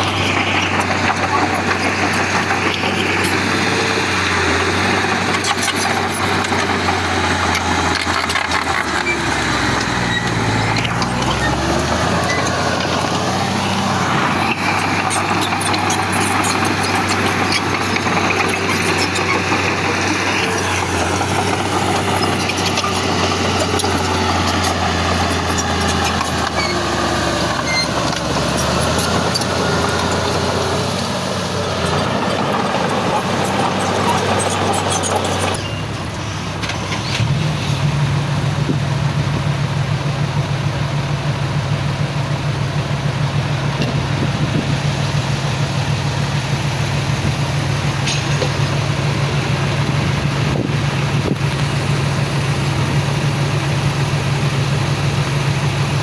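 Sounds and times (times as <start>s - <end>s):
diesel machinery engine revving: 0.0s - 56.0s.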